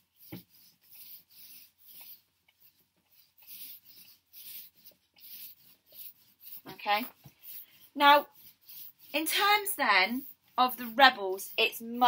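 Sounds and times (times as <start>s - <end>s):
marker writing on whiteboard: 0.0s - 12.0s.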